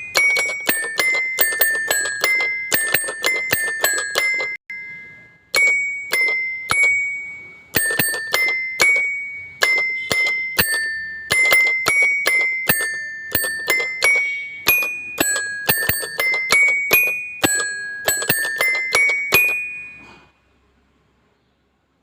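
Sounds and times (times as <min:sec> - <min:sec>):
bell-like music notes: 0:00.0 - 0:20.3.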